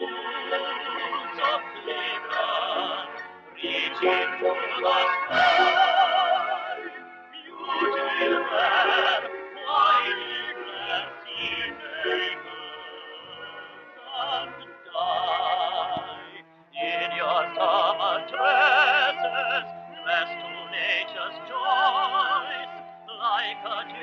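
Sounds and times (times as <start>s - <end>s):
film music with vibrato melody: 0.0s - 24.0s.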